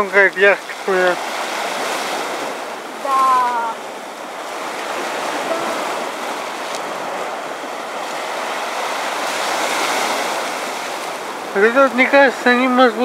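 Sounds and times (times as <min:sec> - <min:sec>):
waves washing over concrete: 0:00.0 - 0:13.0.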